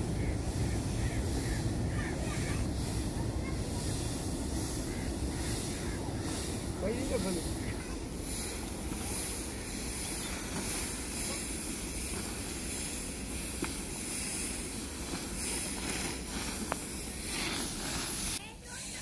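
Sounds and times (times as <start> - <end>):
water boiling hard with steam hiss: 0.0 - 19.0.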